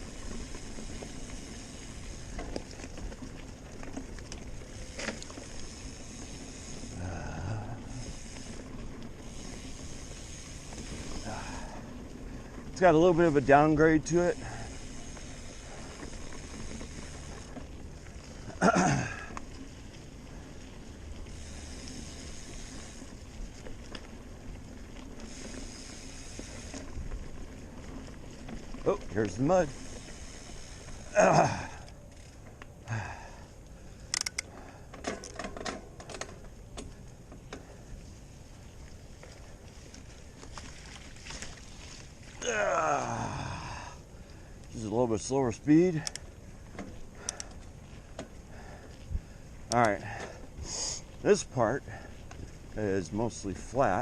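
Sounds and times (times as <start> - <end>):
bike clicks and rattles: 0.0 - 54.0
bike tyres on dirt trail: 0.0 - 54.0.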